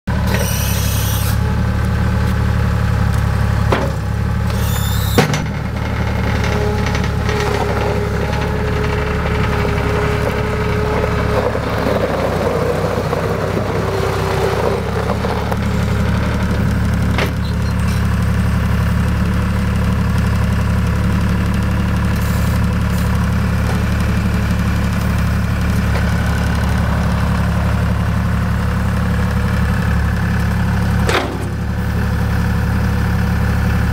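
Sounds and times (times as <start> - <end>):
diesel engine idling: 0.1 - 33.9.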